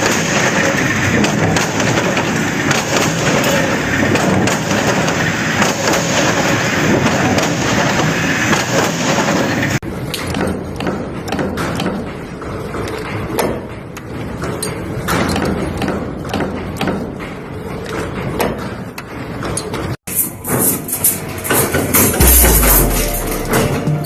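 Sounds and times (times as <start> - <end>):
factory machinery clattering: 0.0 - 24.0.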